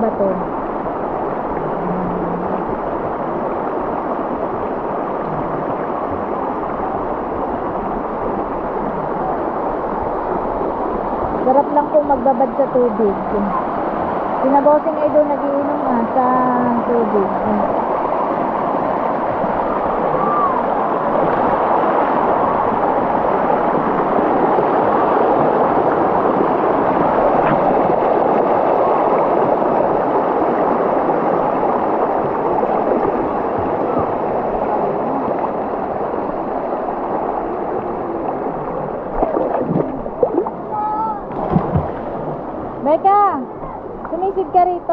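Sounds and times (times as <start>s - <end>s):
stream water rushing over rocks: 0.0s - 44.4s.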